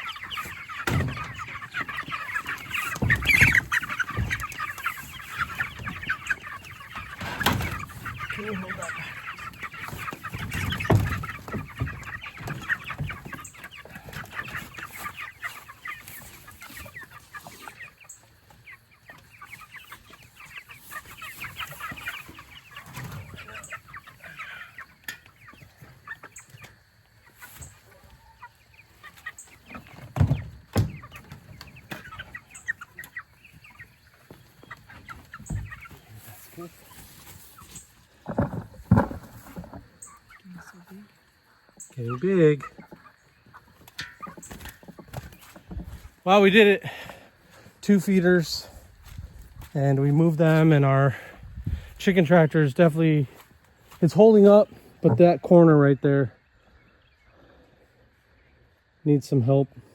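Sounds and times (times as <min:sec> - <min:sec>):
chickens clucking and peeping: 0:00.0 - 0:59.9.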